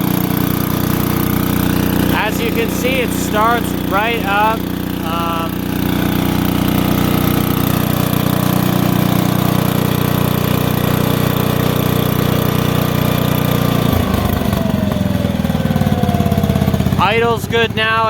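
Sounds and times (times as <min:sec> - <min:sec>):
welder engine running: 0:00.0 - 0:18.0.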